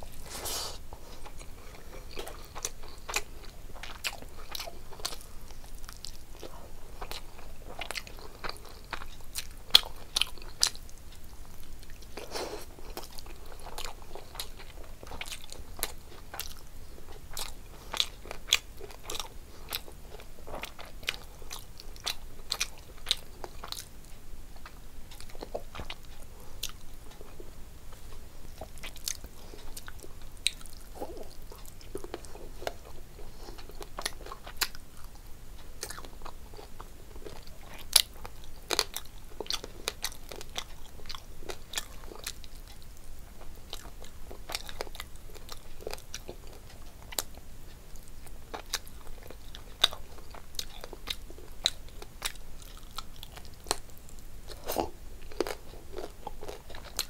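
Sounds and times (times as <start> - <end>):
person chewing with mouth clicks: 0.0 - 23.9, 24.6 - 57.0.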